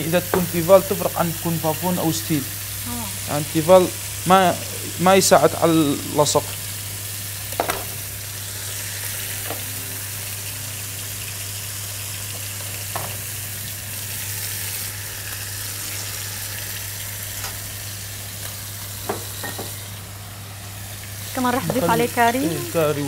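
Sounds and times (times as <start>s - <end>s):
chicken sizzling in pan: 0.0s - 23.0s.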